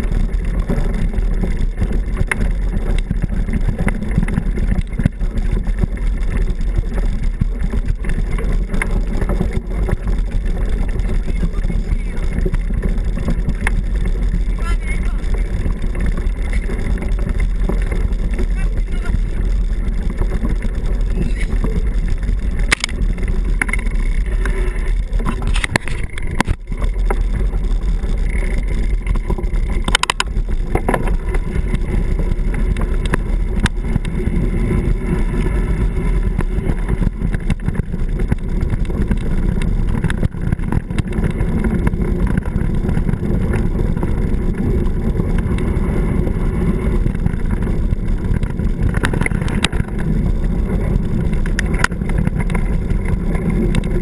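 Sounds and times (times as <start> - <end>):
bike knocks and rattles: 0.0 - 54.0
bike tyres rolling over gravel: 0.0 - 54.0
wind rumble on microphone: 0.0 - 54.0.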